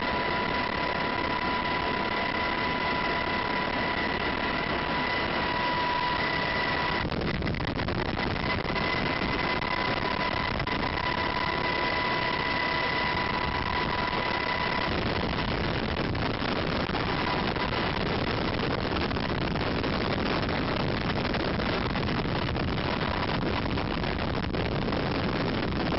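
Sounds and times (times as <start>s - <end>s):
helicopter rotor: 0.0s - 25.9s
high steady whine: 0.0s - 25.9s
turbine engines: 0.0s - 25.9s.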